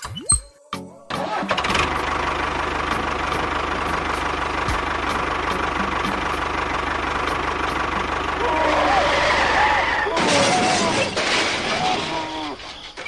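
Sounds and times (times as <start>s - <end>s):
engine idling: 1.1s - 13.0s.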